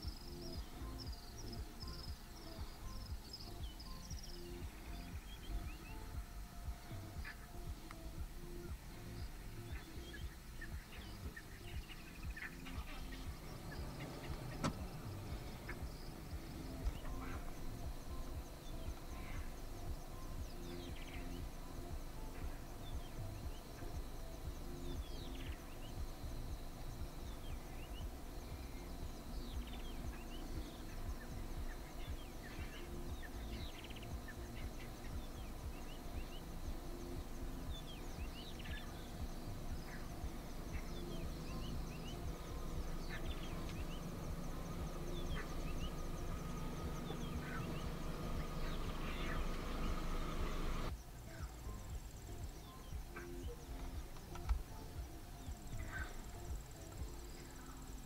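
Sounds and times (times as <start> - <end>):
birds chirping: 0.0 - 58.0
faint insect buzz: 0.0 - 58.0
steady low rumble: 0.0 - 58.0.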